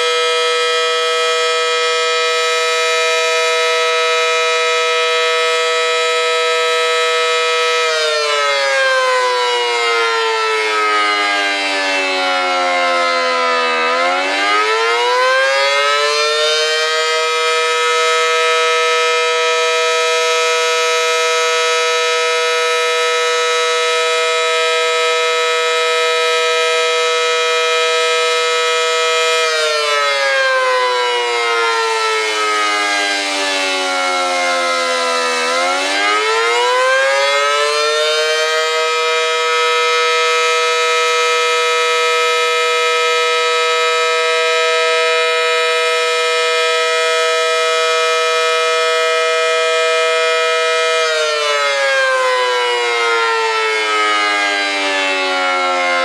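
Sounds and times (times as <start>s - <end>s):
warning siren winding up and down: 0.0s - 56.0s.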